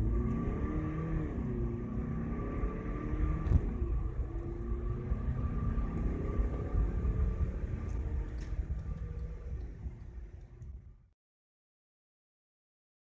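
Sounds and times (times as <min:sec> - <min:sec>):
diesel engine accelerating: 0:00.0 - 0:11.1.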